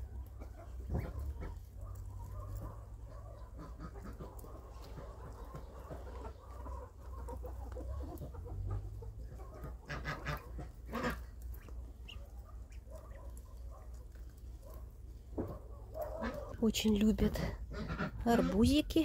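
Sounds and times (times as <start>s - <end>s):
ducklings calling: 0.4s - 14.2s, 15.4s - 16.6s, 17.3s - 19.0s.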